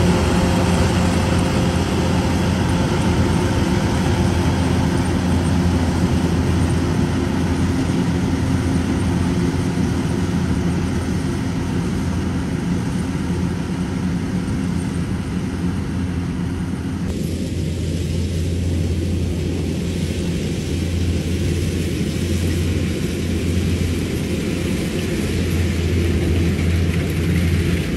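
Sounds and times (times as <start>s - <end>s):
diesel engine humming: 0.0s - 27.9s.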